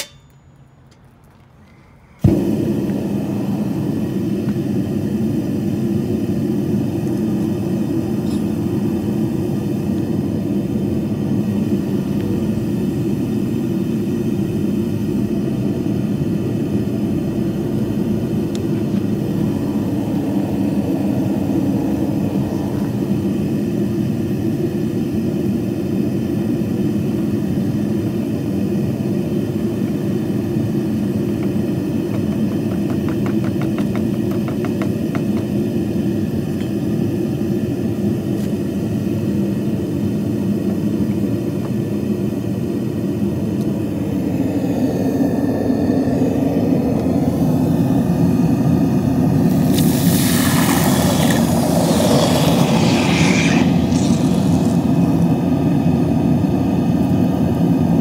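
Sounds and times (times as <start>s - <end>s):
furnace roaring: 2.0s - 58.0s.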